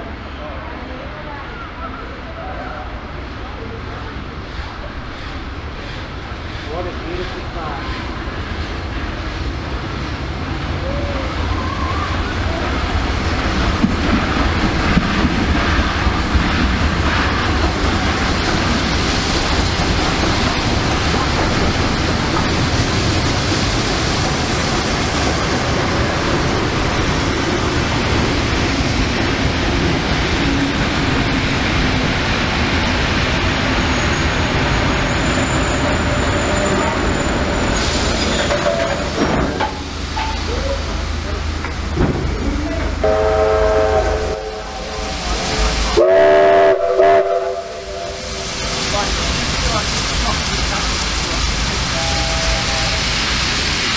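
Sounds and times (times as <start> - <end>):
steam train passing: 0.0 - 53.9.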